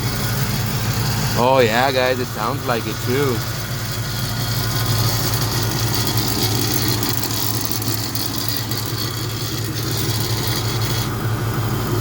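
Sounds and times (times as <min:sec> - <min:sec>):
car engine idling: 0:00.0 - 0:12.0
exhaust rattling: 0:00.0 - 0:12.0.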